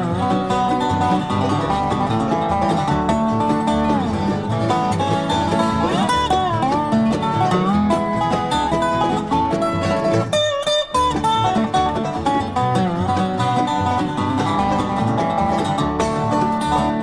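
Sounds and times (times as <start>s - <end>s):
bluegrass band playing: 0.0s - 17.0s
dobro sliding notes: 0.0s - 17.0s.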